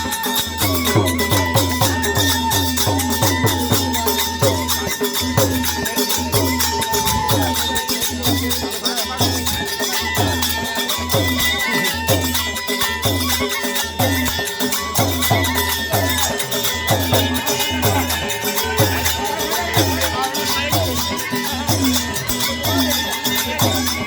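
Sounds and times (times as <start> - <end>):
double flute melody: 0.0 - 24.0
drum beat: 0.0 - 24.0.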